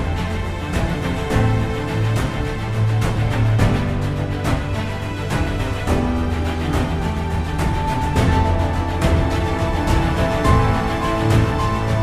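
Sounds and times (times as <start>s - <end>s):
music with beat and bass: 0.0s - 12.0s.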